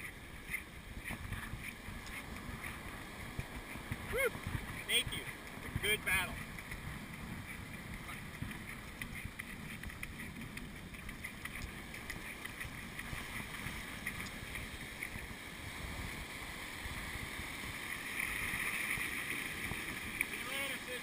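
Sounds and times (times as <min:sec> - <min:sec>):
small surf waves: 0:00.0 - 0:21.0
wind rumble on microphone: 0:00.0 - 0:21.0.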